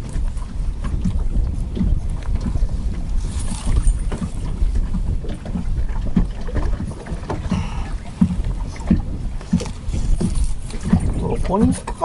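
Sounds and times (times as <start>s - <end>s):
steady low rumble: 0.0s - 12.0s
water lapping against boat hull: 0.0s - 12.0s.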